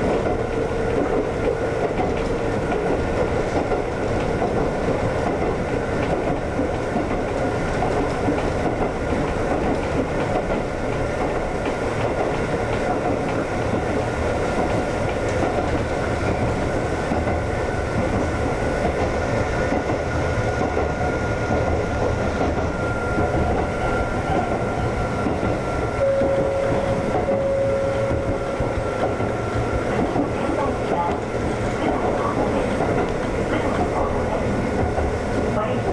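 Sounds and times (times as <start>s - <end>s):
clickety-clack of rail joints: 0.0s - 35.9s
train wheels rumbling on rail: 0.0s - 35.9s.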